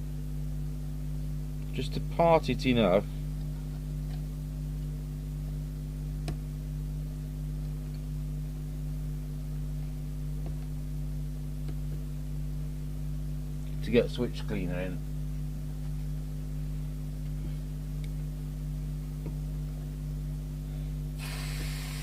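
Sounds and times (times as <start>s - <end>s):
steady multi-tone hum: 0.0s - 22.0s.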